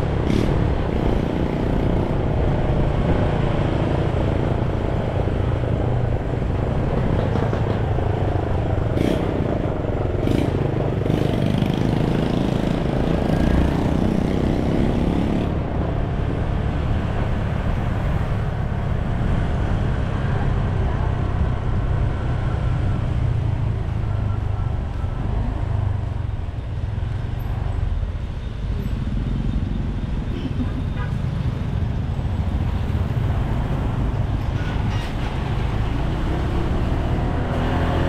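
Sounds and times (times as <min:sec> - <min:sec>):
vehicle engine and road noise: 0:00.0 - 0:38.0.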